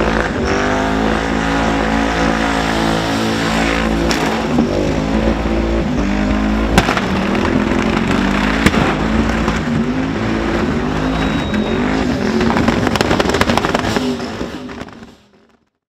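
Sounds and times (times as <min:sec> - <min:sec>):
car engine revving on limiter: 0:00.0 - 0:15.0
sharp exhaust cracks: 0:00.0 - 0:15.7.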